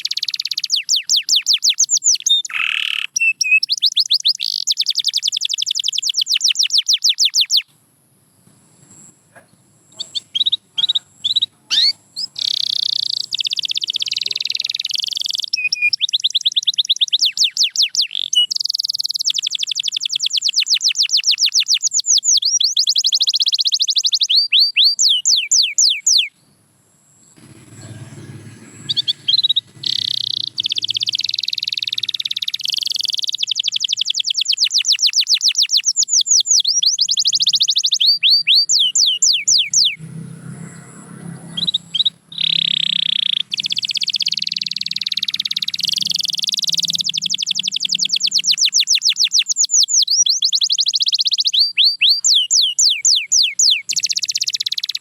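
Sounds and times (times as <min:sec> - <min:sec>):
canary singing trills: 0:00.0 - 0:07.7, 0:08.8 - 0:55.0.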